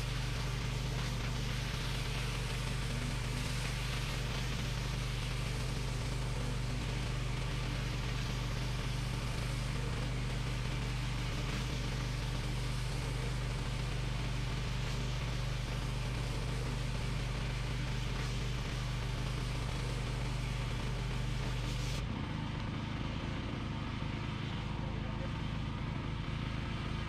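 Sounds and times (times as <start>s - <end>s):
water spraying on concrete: 0.0s - 22.0s
pressure washer engine humming: 0.0s - 27.0s.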